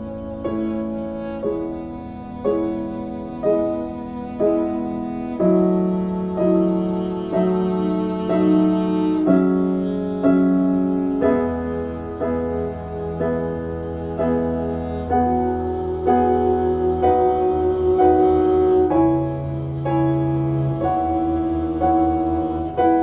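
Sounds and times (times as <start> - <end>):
slow instrumental music: 0.0 - 23.0.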